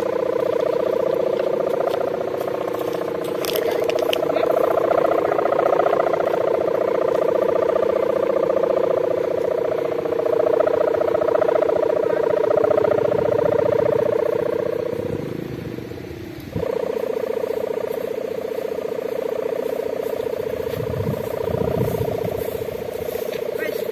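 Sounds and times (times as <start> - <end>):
kite hummer droning: 0.0 - 23.9.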